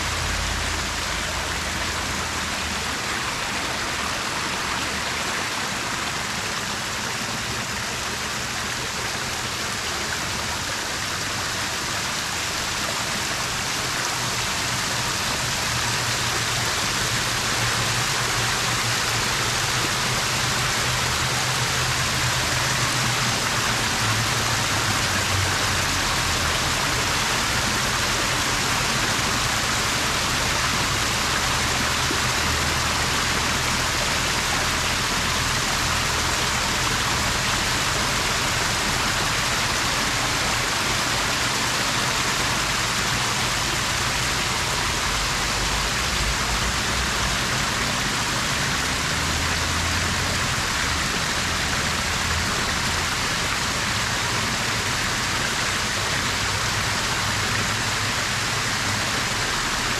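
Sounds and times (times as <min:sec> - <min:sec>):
waterfall splashing into pool: 0:00.0 - 0:59.9.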